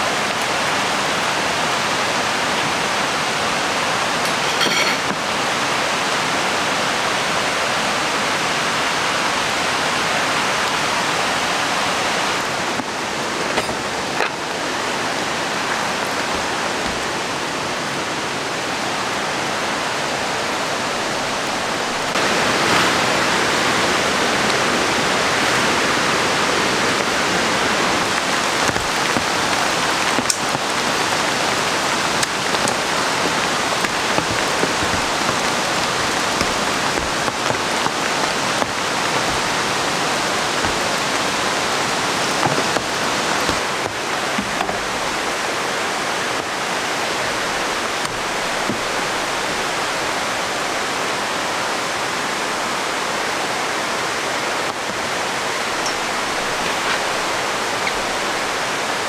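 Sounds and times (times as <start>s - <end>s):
rain: 0.0s - 59.0s
waterfall rushing: 0.0s - 59.0s.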